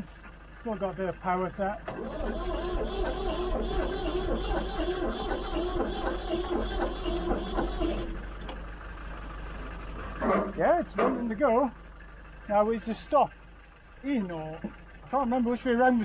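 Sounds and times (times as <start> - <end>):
starter motor cranking diesel engine: 0.0 - 16.0.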